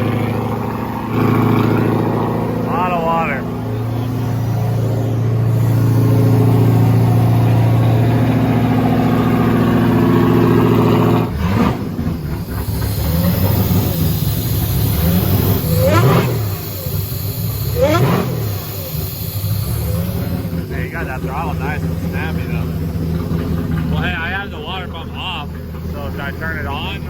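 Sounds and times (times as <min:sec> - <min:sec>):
engine idling and revving: 0:00.0 - 0:27.0.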